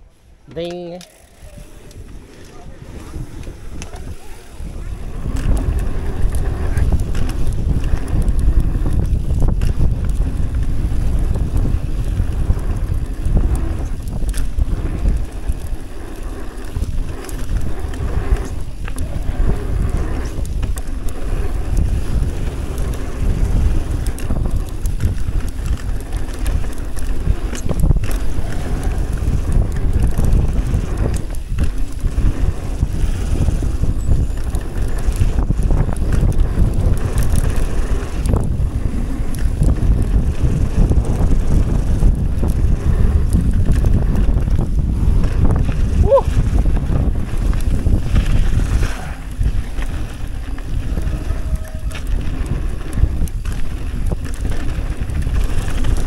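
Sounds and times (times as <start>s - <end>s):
tyres on trail: 0.0s - 56.0s
wind buffeting microphone: 0.0s - 56.0s
bike knocks and rattles: 5.0s - 56.0s.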